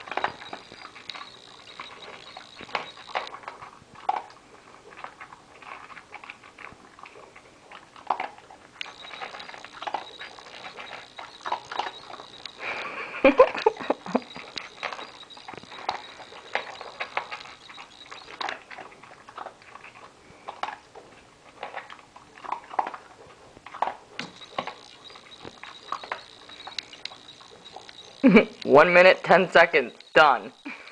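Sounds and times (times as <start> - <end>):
dog crunching food in plastic bowl: 0.0 - 30.9.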